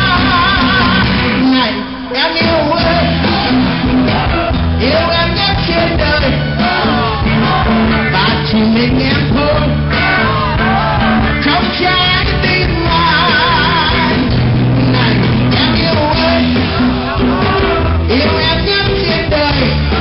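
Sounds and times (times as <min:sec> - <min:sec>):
man singing into a microphone: 0:00.0 - 0:03.8, 0:04.4 - 0:20.0
bass notes: 0:00.0 - 0:20.0
live band playing: 0:00.0 - 0:20.0.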